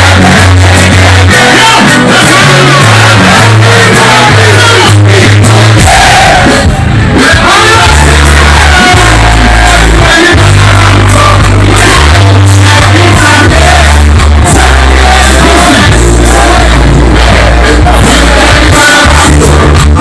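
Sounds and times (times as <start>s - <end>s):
crowd shouting: 0.0s - 20.0s
deep bass line: 0.0s - 20.0s
person singing lead: 0.0s - 20.0s.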